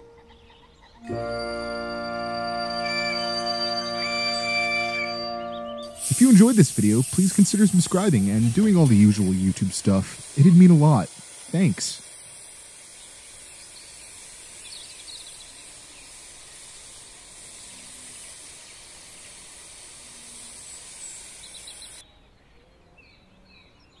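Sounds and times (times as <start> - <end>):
steady hiss: 1.1 - 22.0.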